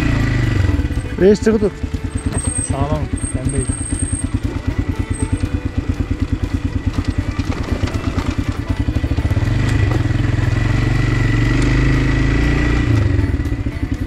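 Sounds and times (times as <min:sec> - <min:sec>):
motorbike engine idling and revving: 0:00.0 - 0:14.0.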